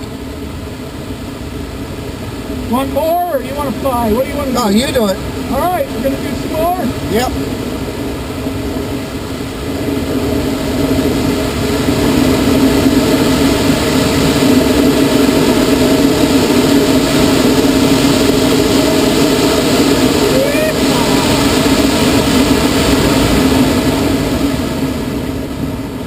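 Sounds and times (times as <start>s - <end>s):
air rushing over glider: 0.0s - 26.0s.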